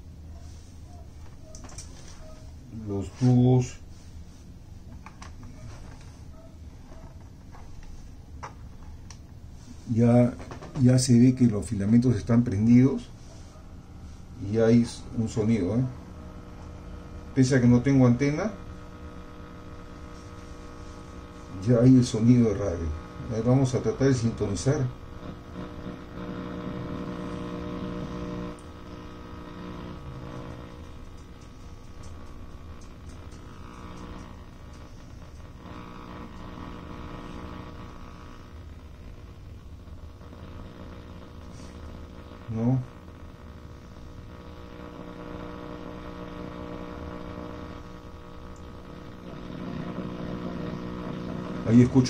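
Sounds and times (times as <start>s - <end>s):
radio hum and static: 0.0s - 52.0s.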